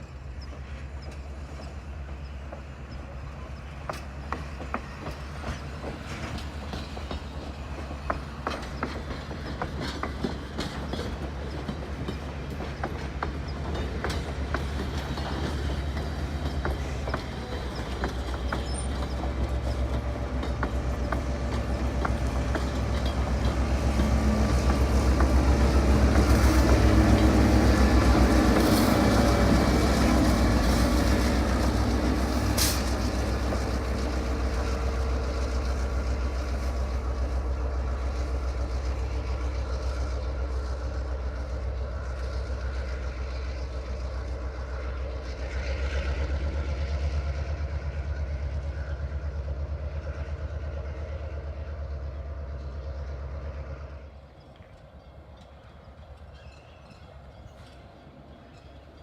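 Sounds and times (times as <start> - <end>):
diesel locomotive drone: 0.0 - 59.0
wheels rumbling on rail: 0.0 - 59.0.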